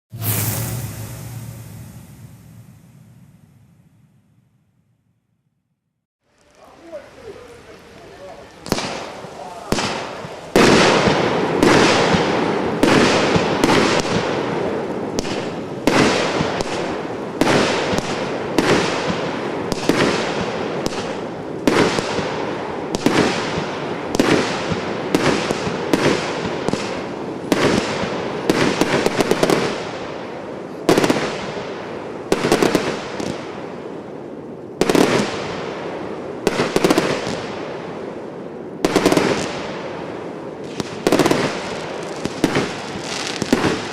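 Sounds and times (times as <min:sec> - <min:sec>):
fireworks bangs: 0:00.1 - 0:04.1, 0:06.5 - 0:30.1, 0:34.8 - 0:38.0, 0:38.8 - 0:43.9.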